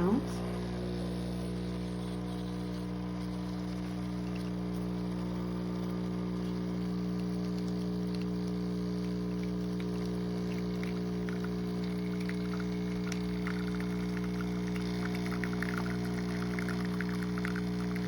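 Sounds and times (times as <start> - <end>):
espresso machine pump humming: 0.0 - 18.0.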